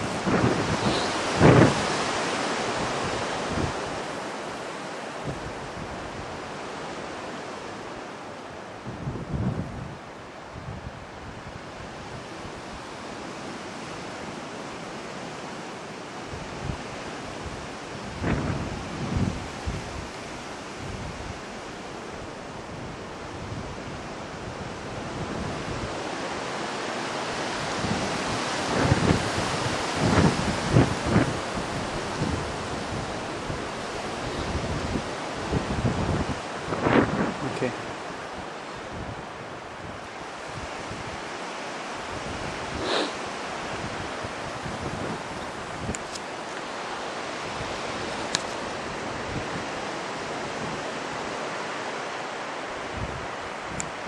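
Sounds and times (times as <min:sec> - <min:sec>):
wind buffeting microphone: 0:00.0 - 0:04.2, 0:05.1 - 0:08.0, 0:08.8 - 0:14.1, 0:16.2 - 0:54.0.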